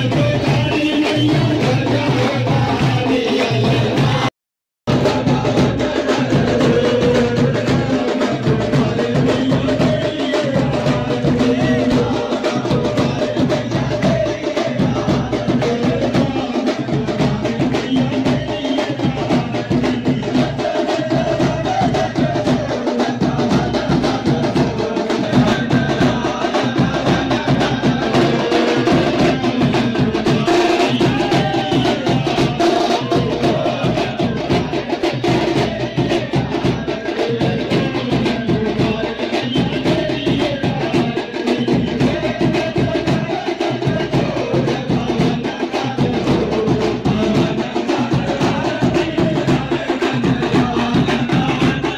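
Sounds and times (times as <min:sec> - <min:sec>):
devotional singing: 0:00.0 - 0:04.3, 0:04.9 - 0:51.9
fast percussion beat: 0:00.0 - 0:04.3, 0:04.9 - 0:51.9.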